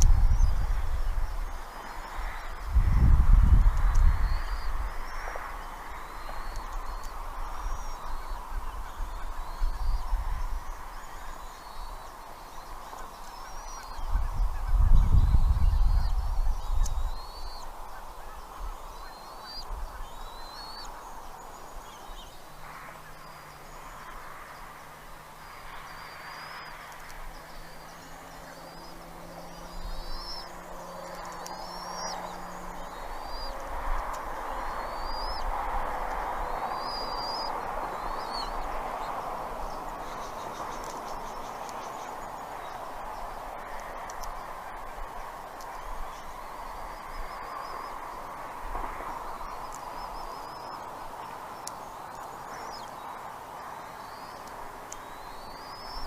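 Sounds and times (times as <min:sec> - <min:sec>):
background hiss: 0:00.0 - 0:56.0.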